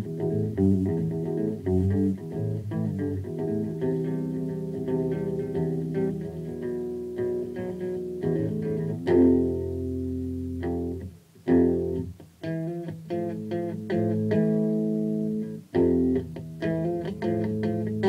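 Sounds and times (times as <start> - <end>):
electric guitar improvisation: 0.0 - 18.0.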